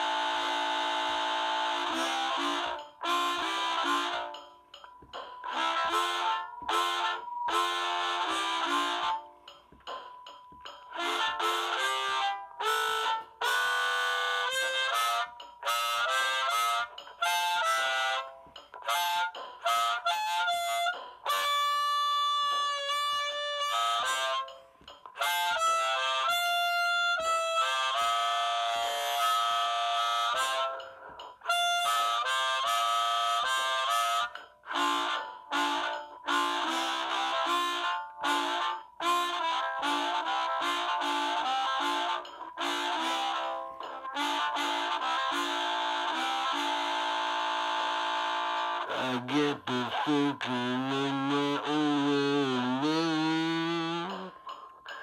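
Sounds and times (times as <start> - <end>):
amplified harmonica playing blues: 0.0 - 9.6, 10.7 - 55.0.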